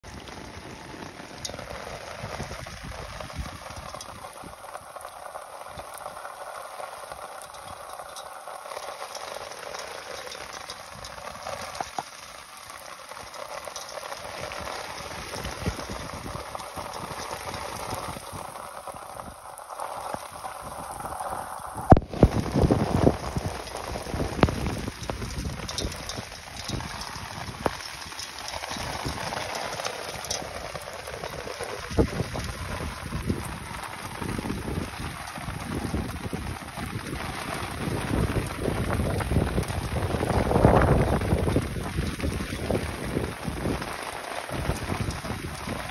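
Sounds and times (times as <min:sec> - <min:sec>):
water droplets pattering: 0:00.0 - 0:45.9.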